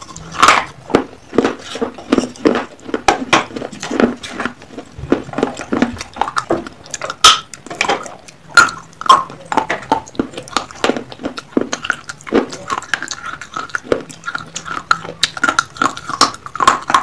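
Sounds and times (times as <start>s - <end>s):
clay pot pieces crunched by chewing: 0.0s - 17.0s.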